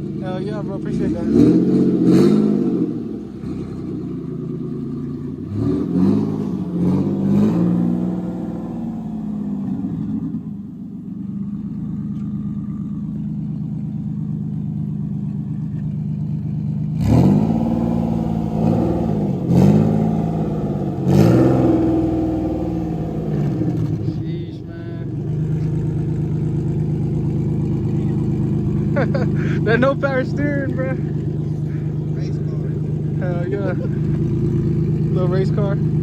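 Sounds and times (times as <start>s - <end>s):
car engine running and revving: 0.0s - 36.0s.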